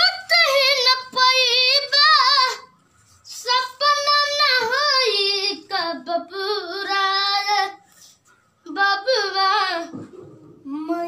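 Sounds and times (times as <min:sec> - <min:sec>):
boy singing unaccompanied: 0:00.0 - 0:07.9, 0:08.6 - 0:10.0.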